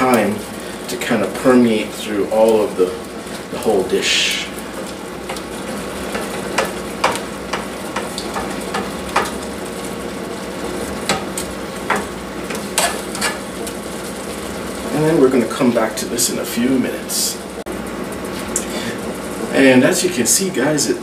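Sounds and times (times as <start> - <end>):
liquid sizzling: 0.0 - 21.0.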